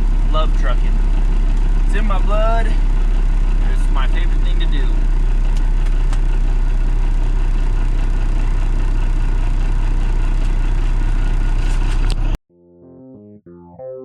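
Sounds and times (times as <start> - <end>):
dump truck diesel engine running: 0.0 - 12.4.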